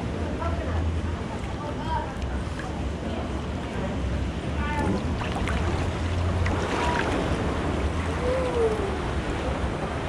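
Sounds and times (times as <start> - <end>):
water flowing and lapping: 0.9 - 10.0.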